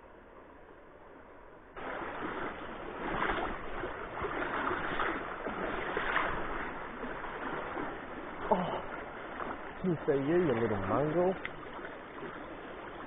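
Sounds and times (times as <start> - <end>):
river water rushing and splashing: 0.8 - 13.0.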